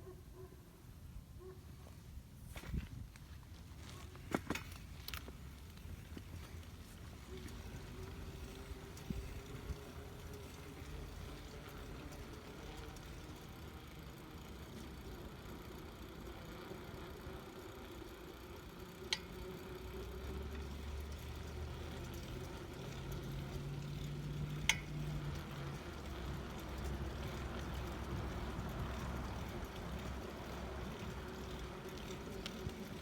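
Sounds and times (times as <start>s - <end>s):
vehicle engine idling: 5.4s - 33.0s.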